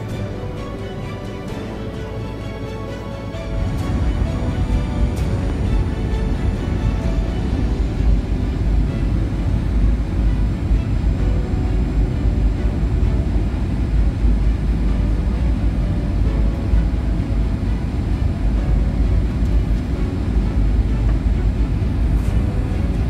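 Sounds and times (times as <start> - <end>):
airliner cabin rumble: 0.0 - 23.0
rushing air: 0.0 - 23.0.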